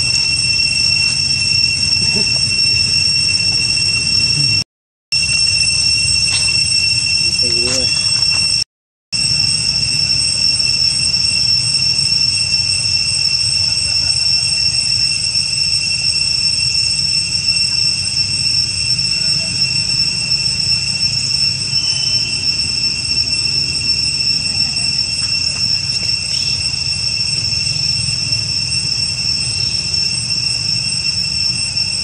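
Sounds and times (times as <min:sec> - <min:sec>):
high-pitched insect drone: 0:00.0 - 0:04.6, 0:05.2 - 0:08.6, 0:09.2 - 0:32.0.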